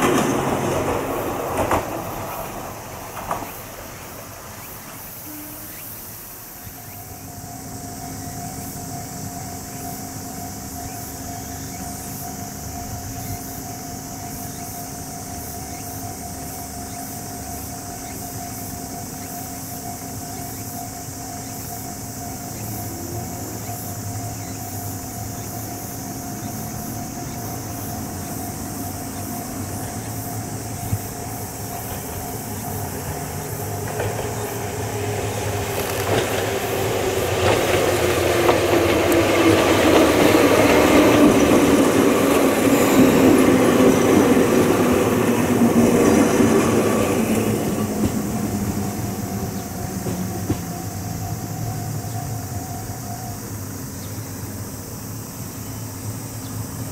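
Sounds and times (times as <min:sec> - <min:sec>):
electric train rumble: 0:00.0 - 0:56.9
insects chirping: 0:00.0 - 0:56.9.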